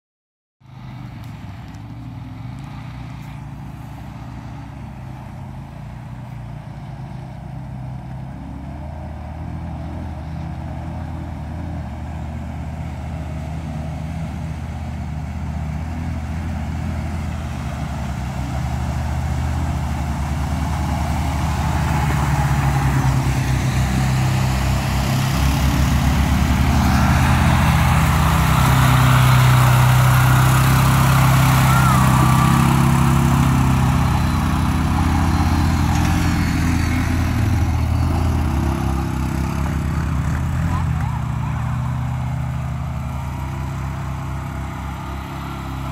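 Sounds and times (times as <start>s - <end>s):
atv engines running: 0.6s - 45.9s
atv driving through mud: 0.7s - 45.9s.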